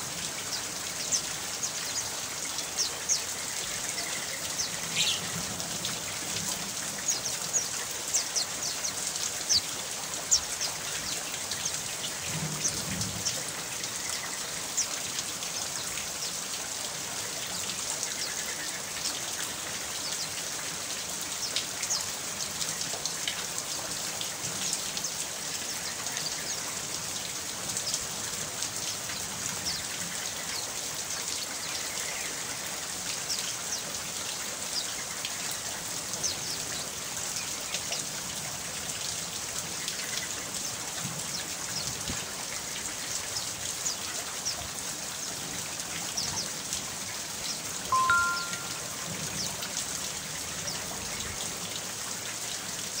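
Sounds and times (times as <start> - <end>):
raindrops pattering on a surface: 0.0 - 53.0
steady rain: 0.0 - 53.0.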